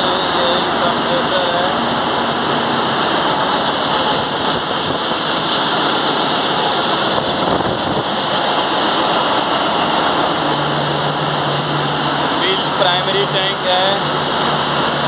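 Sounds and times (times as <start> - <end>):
engine room machinery din: 0.0 - 15.0.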